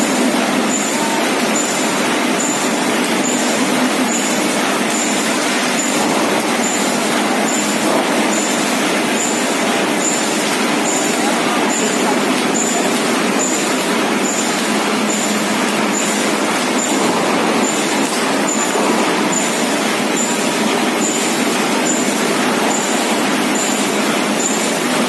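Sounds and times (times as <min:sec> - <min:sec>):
welding machine running: 0:00.0 - 0:25.0.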